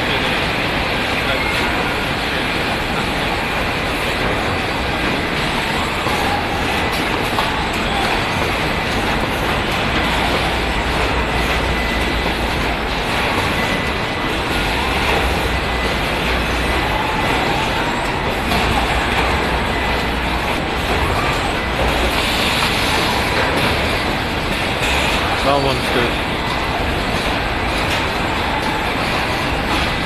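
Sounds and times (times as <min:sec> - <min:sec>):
assembly line machinery din: 0:00.0 - 0:30.0.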